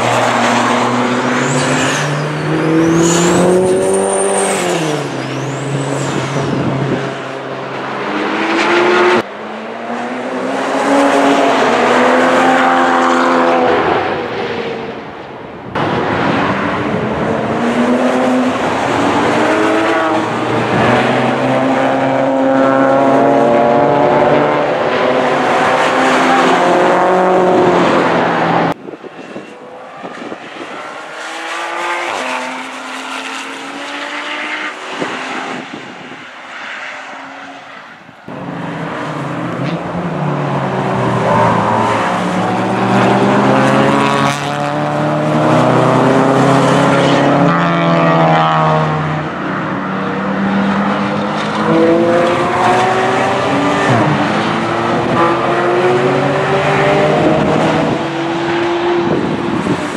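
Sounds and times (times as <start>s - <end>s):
race cars driving past: 0.0s - 59.9s.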